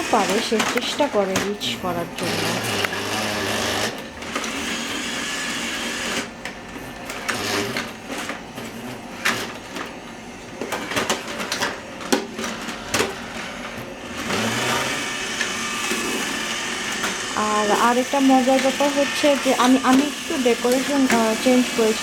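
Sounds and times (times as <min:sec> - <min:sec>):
robot vacuum whirring: 0:00.0 - 0:11.8, 0:12.4 - 0:22.0.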